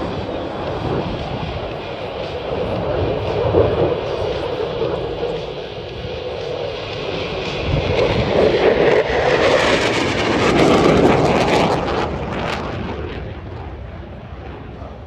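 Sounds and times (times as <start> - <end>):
fighter jet passing: 0.0 - 15.0.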